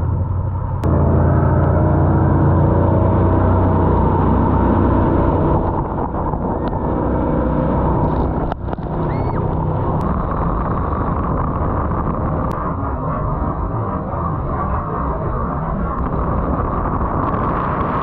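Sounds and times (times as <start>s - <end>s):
jet boat engine running: 0.0s - 18.0s.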